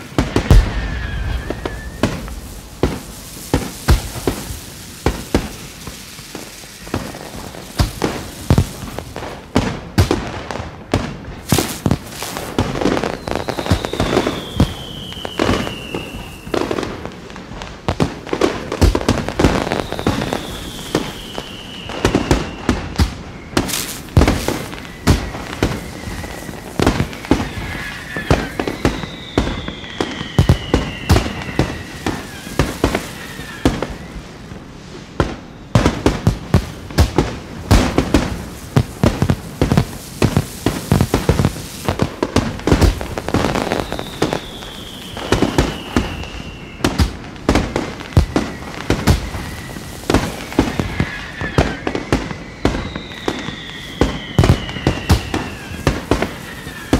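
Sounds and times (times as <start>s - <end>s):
firework whistles falling in pitch: 0.0s - 9.7s, 11.4s - 56.9s
fireworks bangs: 0.0s - 56.9s.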